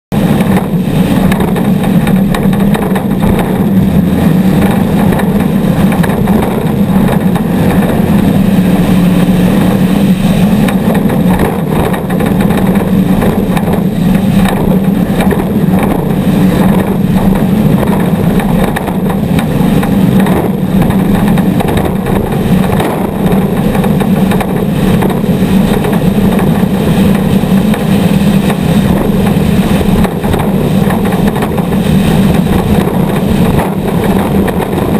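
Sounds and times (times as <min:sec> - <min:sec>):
race vehicle engines running: 0:00.1 - 0:34.9.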